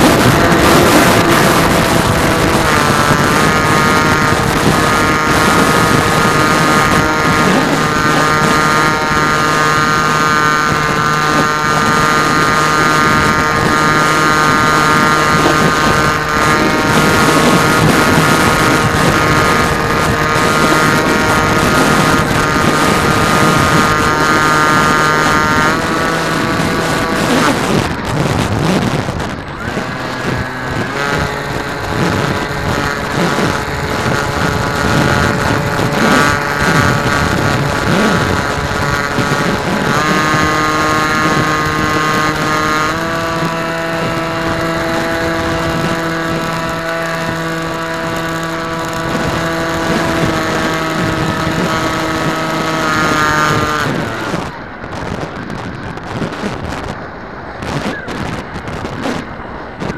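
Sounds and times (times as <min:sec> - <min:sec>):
model aircraft motor whine: 0:00.0 - 0:54.8
wind rushing over microphone: 0:00.0 - 0:59.9.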